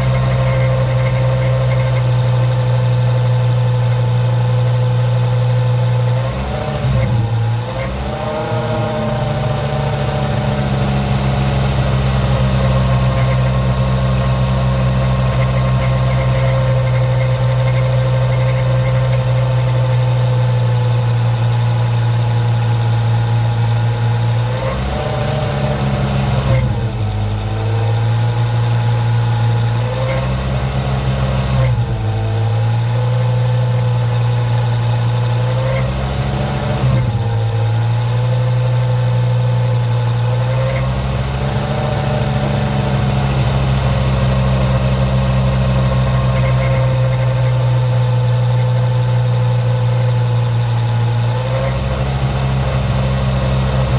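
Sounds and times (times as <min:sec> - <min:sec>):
car engine droning at low revs: 0:00.0 - 0:53.9.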